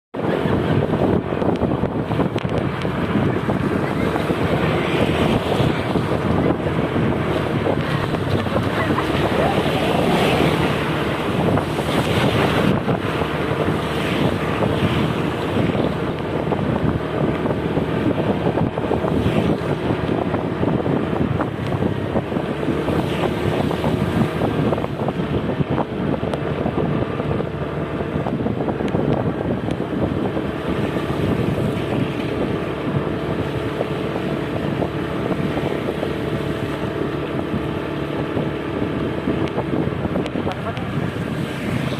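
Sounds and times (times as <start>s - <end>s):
wind buffeting microphone: 0.1s - 41.9s
bus engine running: 0.2s - 41.9s.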